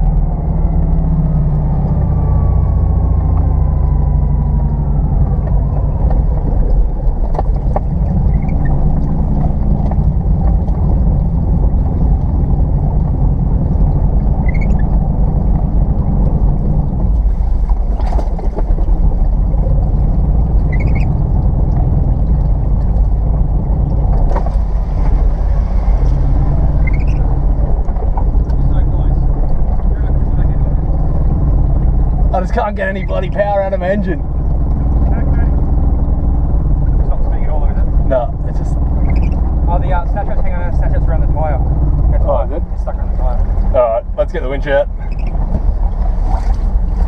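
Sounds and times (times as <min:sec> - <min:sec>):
car engine running rough: 0:00.0 - 0:47.0
windscreen wipers squeaking: 0:00.0 - 0:47.0.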